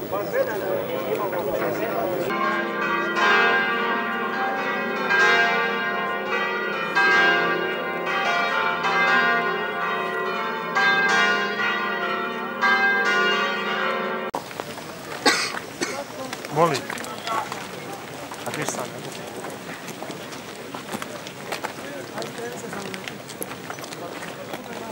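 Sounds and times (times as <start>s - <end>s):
church bells pealing: 0.0s - 24.9s.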